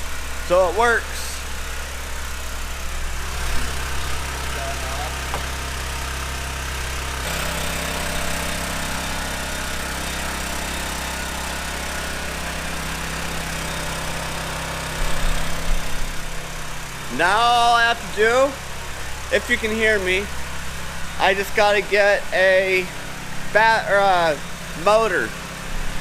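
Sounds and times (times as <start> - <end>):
generator engine running: 0.0 - 26.0.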